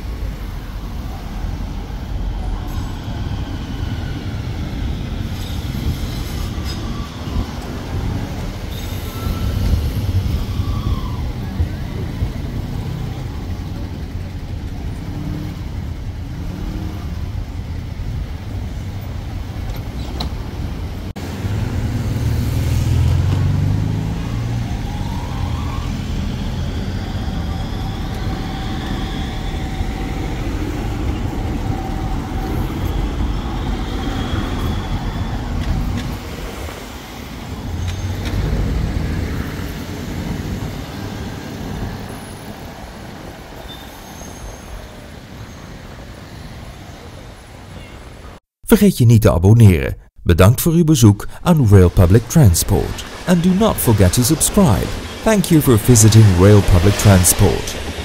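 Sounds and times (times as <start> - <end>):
rumble of passing vehicles: 0.0 - 48.4.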